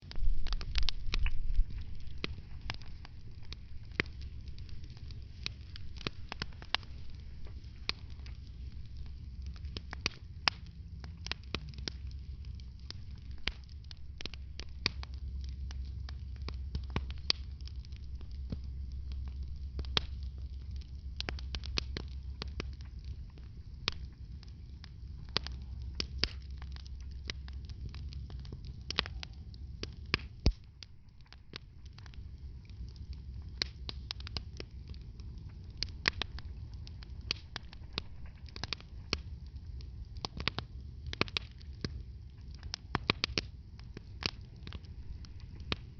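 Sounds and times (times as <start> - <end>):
low fire rumble: 0.0 - 45.9
wood fire crackling and popping: 0.0 - 45.9.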